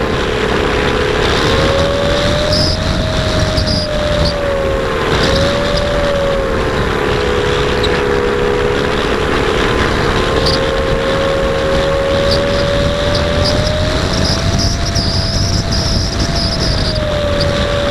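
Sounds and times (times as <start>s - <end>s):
electric motor and propeller whining: 0.0s - 17.9s
wind rumble on microphone: 0.0s - 17.9s.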